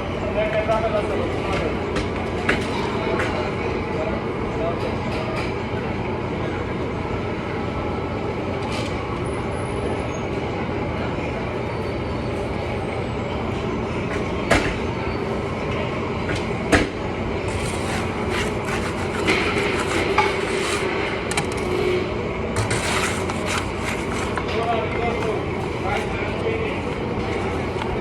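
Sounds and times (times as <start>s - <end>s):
low rumbling background noise: 0.0s - 28.0s.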